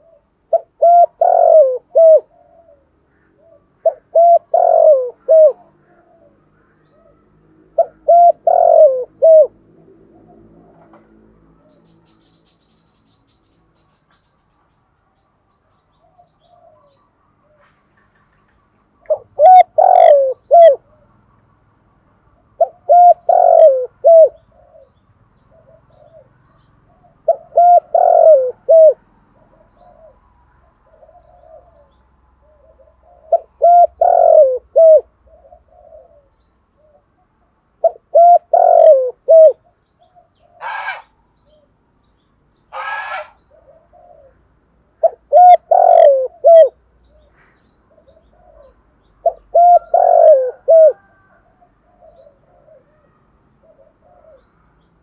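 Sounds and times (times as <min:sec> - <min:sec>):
dove cooing: 0:00.0 - 0:12.2, 0:15.9 - 0:18.4, 0:19.0 - 0:21.1, 0:22.4 - 0:41.7, 0:42.7 - 0:54.7.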